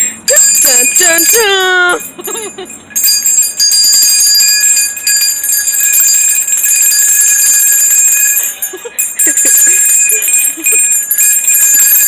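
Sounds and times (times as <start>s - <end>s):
bells jingling: 0.0s - 12.0s.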